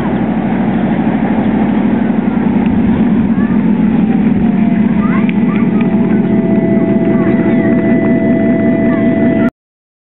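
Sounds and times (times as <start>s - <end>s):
miniature locomotive engine throbbing: 0.0s - 9.5s.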